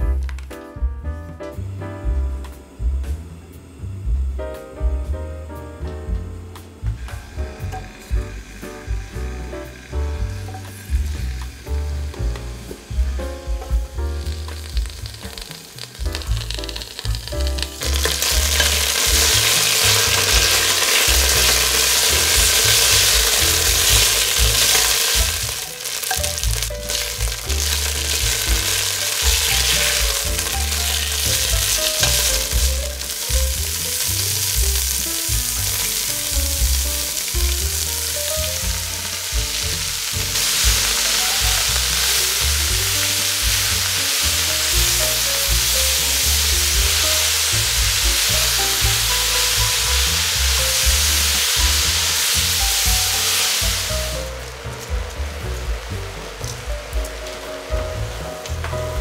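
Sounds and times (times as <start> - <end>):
soft background music: 0.0 - 59.0
vegetables sizzling in oil: 6.3 - 59.0.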